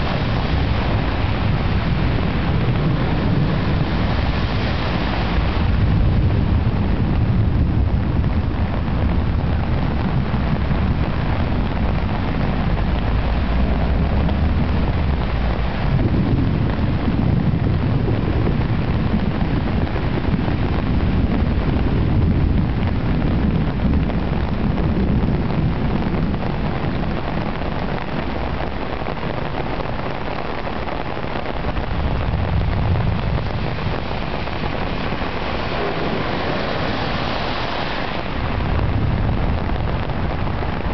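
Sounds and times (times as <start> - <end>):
cars swishing through floodwater: 0.0 - 40.9
torrential rain pouring: 0.0 - 40.9
wind buffeting microphone: 0.0 - 40.9.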